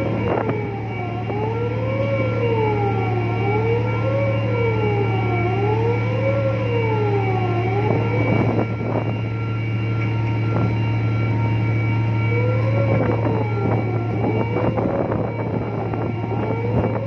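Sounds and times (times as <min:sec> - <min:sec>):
high whine tones: 0:00.0 - 0:17.0
ship engine drone: 0:00.0 - 0:17.0
siren-like sweeping tone: 0:00.0 - 0:17.0.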